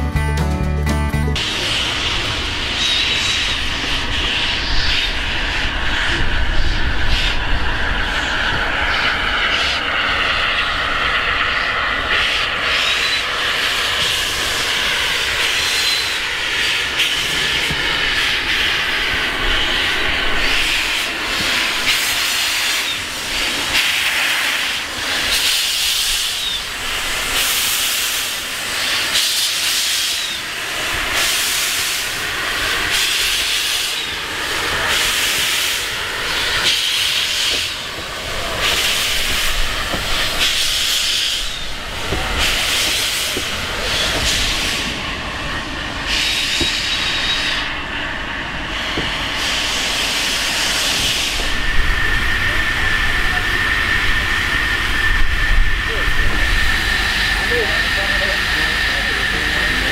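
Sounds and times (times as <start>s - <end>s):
steam locomotive hissing bursts: 1.4s - 59.9s.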